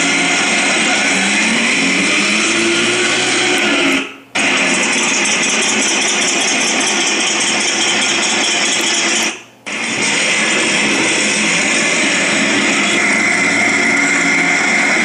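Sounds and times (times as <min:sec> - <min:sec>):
tank engine sound effect: 0:00.0 - 0:15.0.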